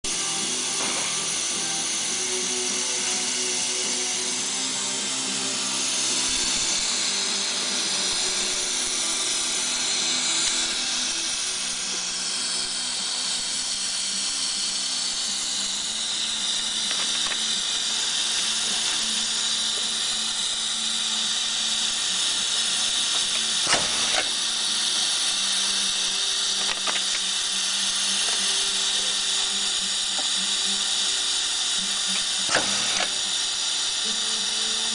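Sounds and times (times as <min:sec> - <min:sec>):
machine whine and hiss: 0:00.0 - 0:34.9.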